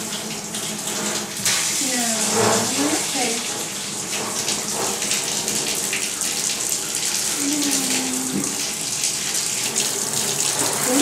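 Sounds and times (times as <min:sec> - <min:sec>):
tap water splashing into tub: 0:00.0 - 0:11.0.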